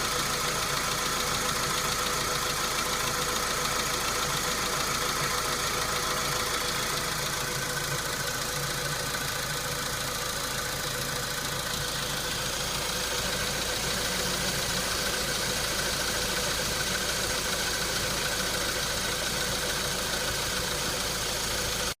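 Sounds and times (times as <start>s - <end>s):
car engine idling with knock: 0.0s - 22.0s.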